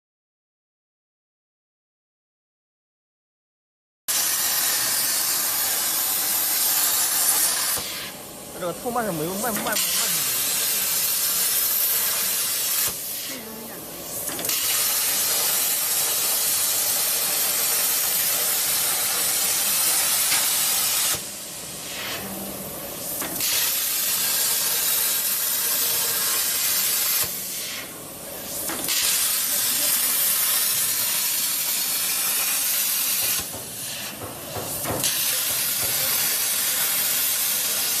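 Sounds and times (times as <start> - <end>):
plasma cutter hissing: 4.1 - 38.0.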